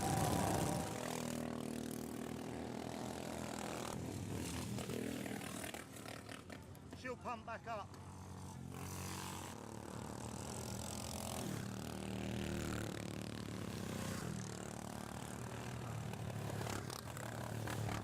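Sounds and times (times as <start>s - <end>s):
lawnmower engines racing: 0.0s - 18.0s.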